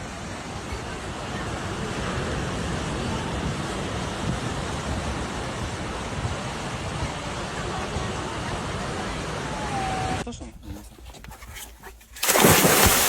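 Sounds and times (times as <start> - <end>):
wind: 0.0 - 13.0
surf: 0.3 - 13.0.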